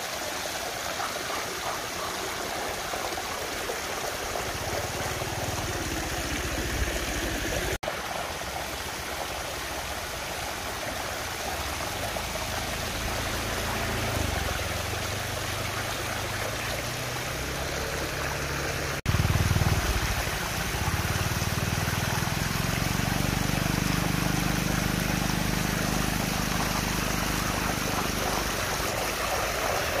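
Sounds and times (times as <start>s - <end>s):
water rushing down a drain: 0.0s - 30.0s.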